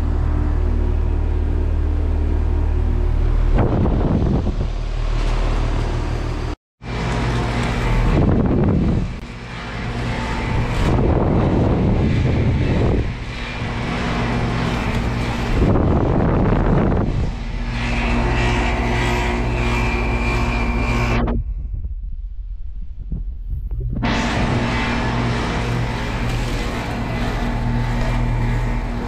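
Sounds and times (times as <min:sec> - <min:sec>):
compressor hum: 0:00.0 - 0:29.0
fan air rushing: 0:00.0 - 0:29.0.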